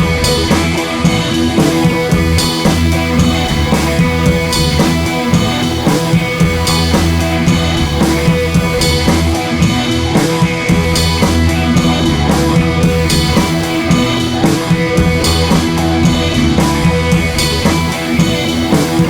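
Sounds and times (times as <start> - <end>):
rock music with drums and guitar: 0.0 - 19.0.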